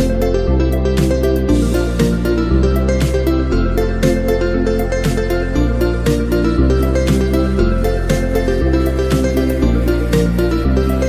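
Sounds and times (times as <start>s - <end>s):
electronic music with bass line: 0.0s - 11.0s.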